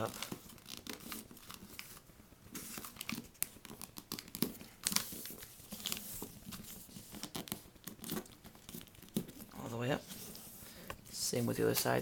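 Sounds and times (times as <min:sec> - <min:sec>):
paper crinkling and rustling: 0:00.0 - 0:12.0.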